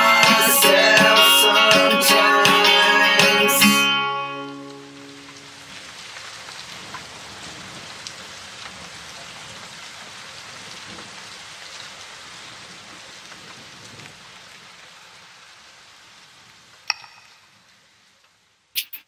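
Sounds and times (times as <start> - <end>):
steady rain falling: 0.0 - 18.7.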